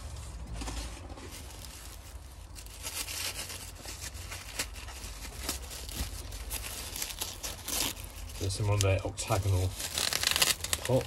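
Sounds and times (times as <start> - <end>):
paper wrapping rustling: 0.0 - 11.0.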